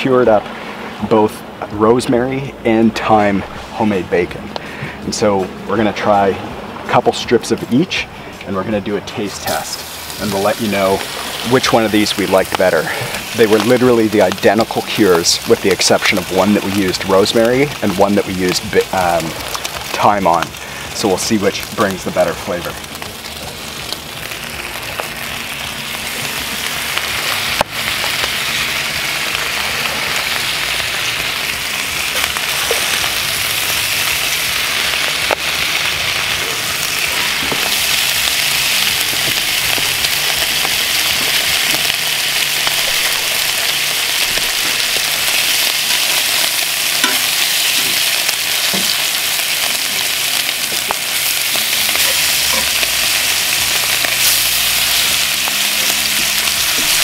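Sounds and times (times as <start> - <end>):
bacon sizzling in a skillet: 9.4 - 57.0.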